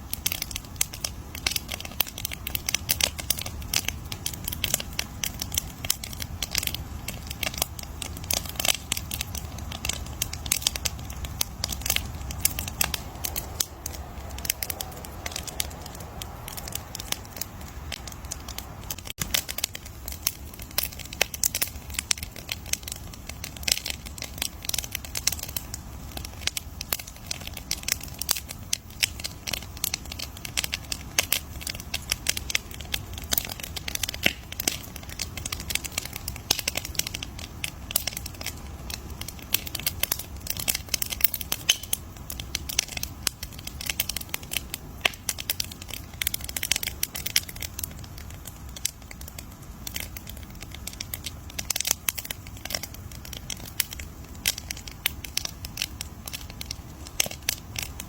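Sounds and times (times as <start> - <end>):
campfire popping and snapping: 0.0 - 58.0
low rumble of flame: 0.0 - 58.0.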